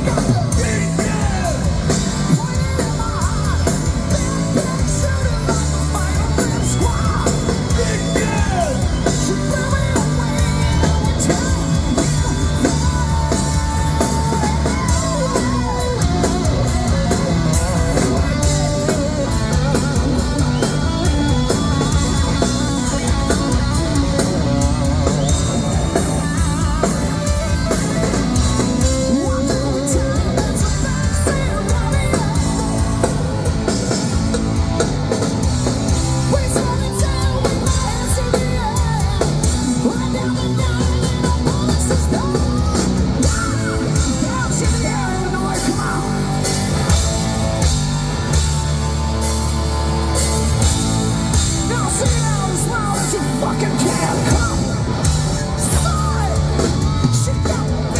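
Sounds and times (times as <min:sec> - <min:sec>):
hard rock band playing: 0:00.0 - 0:57.9
singer singing and yelling: 0:00.0 - 0:57.9.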